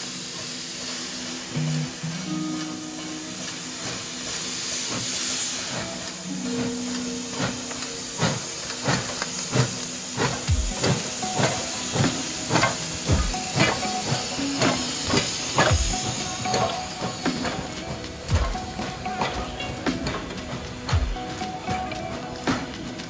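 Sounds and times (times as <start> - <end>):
steam hissing: 0.0 - 23.0
steam locomotive chuffing: 0.0 - 23.0.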